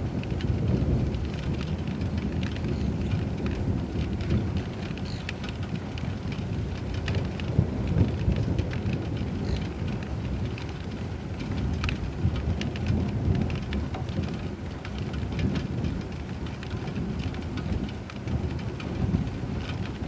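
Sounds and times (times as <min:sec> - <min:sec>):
low rumble of thunder: 0:00.0 - 0:20.0
raindrops ticking on a surface: 0:00.0 - 0:20.0.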